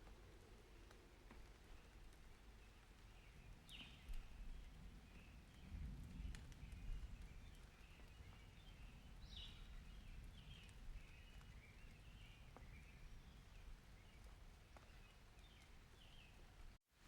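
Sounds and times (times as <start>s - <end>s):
faint rain: 0.0s - 17.0s.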